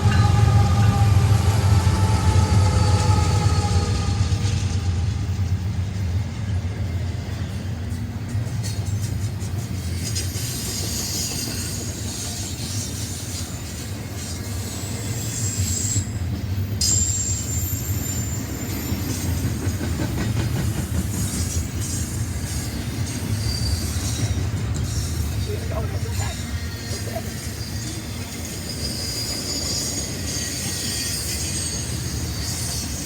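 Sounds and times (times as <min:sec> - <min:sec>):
high wheel squeal: 0:00.0 - 0:05.6, 0:09.8 - 0:19.8, 0:21.2 - 0:33.0
train cars rumbling on track: 0:00.0 - 0:33.0.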